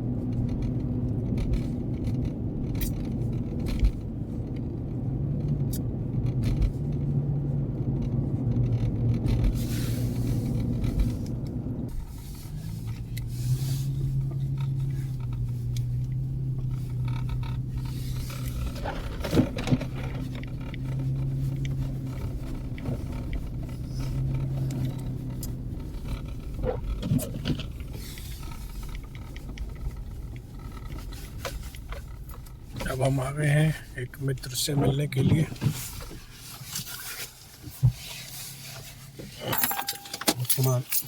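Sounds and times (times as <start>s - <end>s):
car engine drone: 0.0s - 41.0s
road rumble: 0.0s - 41.0s.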